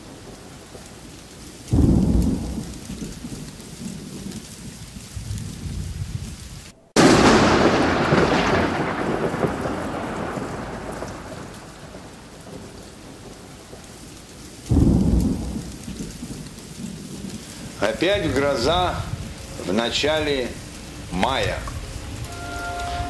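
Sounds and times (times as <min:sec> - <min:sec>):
steady rain: 0:00.0 - 0:23.0
thunder rolling: 0:00.0 - 0:23.0.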